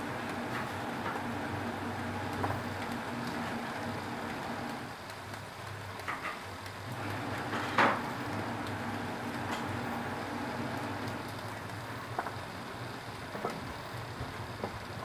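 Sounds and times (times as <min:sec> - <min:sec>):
gas stove burner running: 0:00.0 - 0:15.0.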